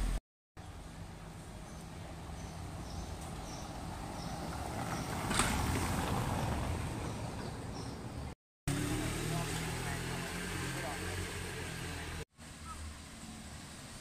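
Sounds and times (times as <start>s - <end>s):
city street noise: 0.0s - 14.0s
vehicle passing: 0.8s - 12.2s.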